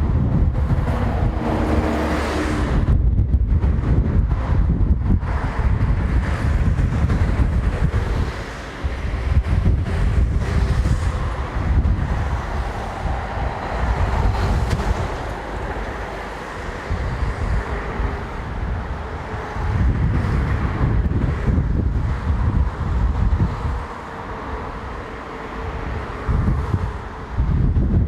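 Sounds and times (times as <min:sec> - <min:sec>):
diesel locomotive engine rumble: 0:00.0 - 0:28.0
wind buffeting microphone: 0:00.0 - 0:28.0.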